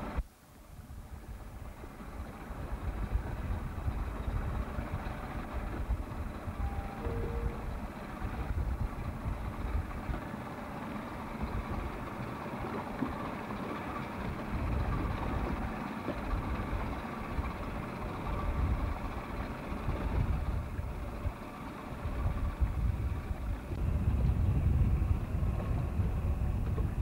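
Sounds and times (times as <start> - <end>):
low rumble: 0.9 - 10.3, 14.2 - 27.0.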